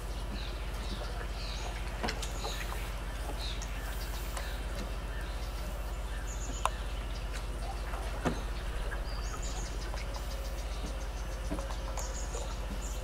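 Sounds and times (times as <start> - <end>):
bird chirps: 0.0 - 13.0
low pulsing hum: 0.0 - 13.0.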